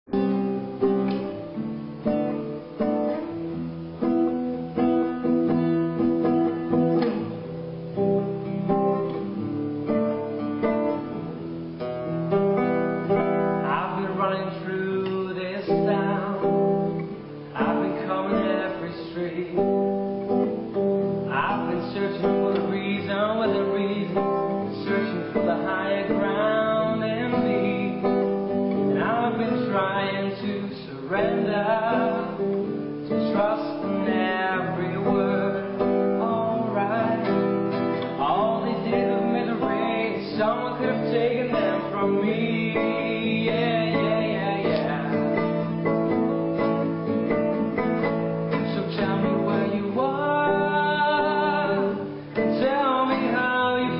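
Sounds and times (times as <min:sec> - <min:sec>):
acoustic guitar plucked and strummed: 0:00.0 - 0:53.9.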